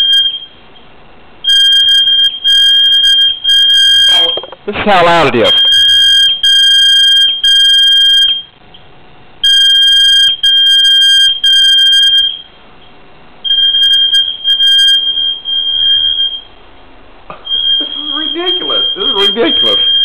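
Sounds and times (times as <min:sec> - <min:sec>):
fire alarm beeping: 0:00.0 - 0:04.6, 0:05.4 - 0:08.6, 0:09.4 - 0:12.6, 0:13.4 - 0:16.6, 0:17.4 - 0:20.0.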